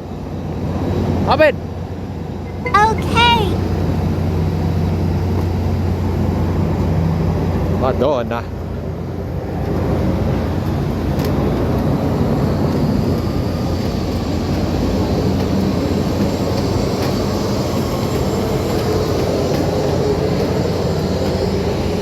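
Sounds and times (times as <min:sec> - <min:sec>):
jet aircraft engines: 0:03.7 - 0:22.0.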